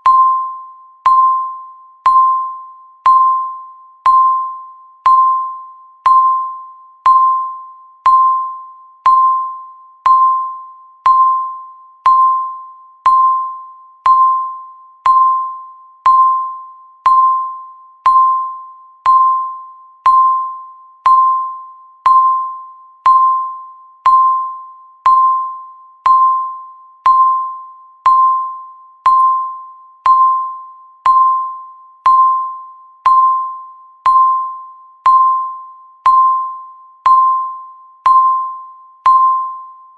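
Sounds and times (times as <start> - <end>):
electronic timer tick with bell tone: 0.0 - 39.9.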